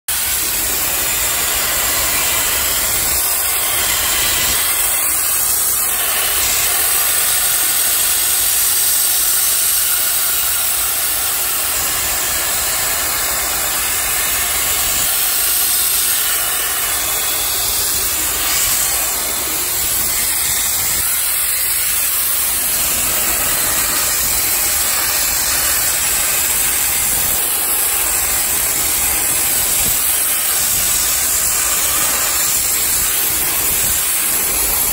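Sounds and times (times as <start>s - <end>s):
flame-spray gun hissing: 0.1s - 34.9s.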